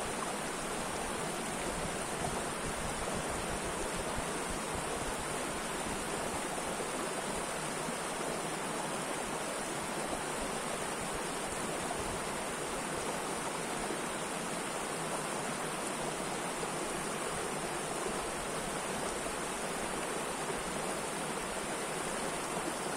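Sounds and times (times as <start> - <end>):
river water rushing: 0.0 - 22.9.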